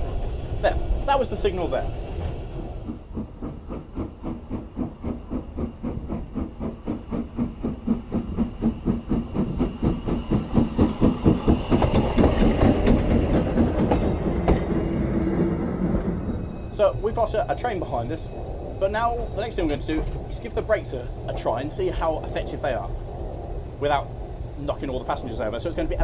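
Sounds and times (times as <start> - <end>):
steam hiss: 0.0 - 26.0
steam locomotive exhaust beats: 0.0 - 26.0.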